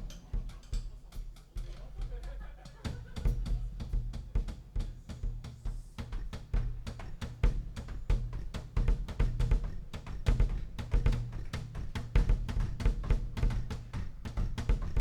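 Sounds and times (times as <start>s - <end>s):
music with heavy drum beat: 0.0s - 15.0s.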